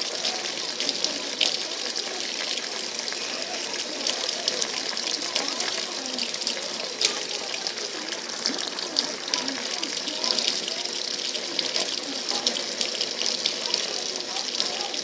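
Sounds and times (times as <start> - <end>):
water rushing in washing machine: 0.0 - 15.0.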